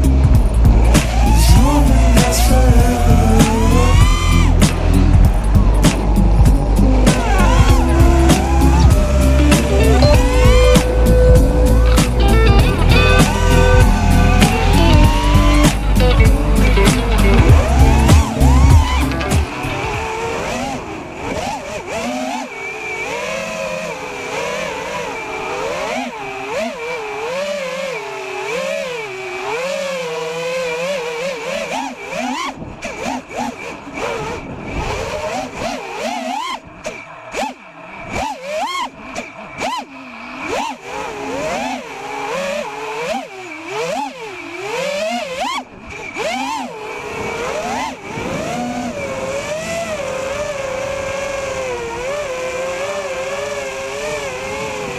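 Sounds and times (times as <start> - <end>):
quadcopter motors whining: 0.0 - 54.9.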